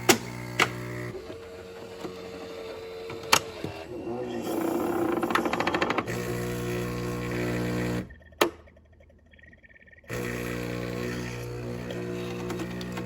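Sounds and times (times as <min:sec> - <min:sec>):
espresso machine pump humming: 0:00.0 - 0:08.2, 0:10.1 - 0:13.0.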